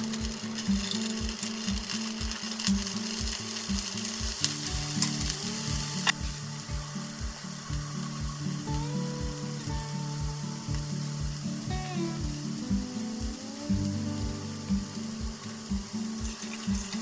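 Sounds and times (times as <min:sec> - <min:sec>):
background music with beat: 0:00.0 - 0:17.0
scallops sizzling in frying pan: 0:00.0 - 0:17.0.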